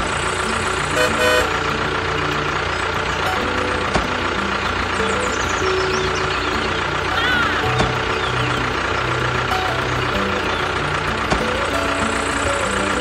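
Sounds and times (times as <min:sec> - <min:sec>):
simple tune of held notes: 0:00.0 - 0:13.0
tractor engine running: 0:00.0 - 0:13.0.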